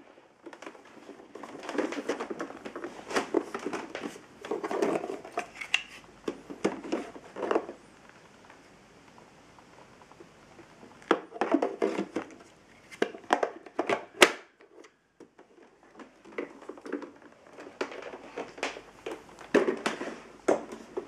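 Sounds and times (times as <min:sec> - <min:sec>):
plastic vacuum parts clattering: 0:00.4 - 0:07.8, 0:10.9 - 0:21.0.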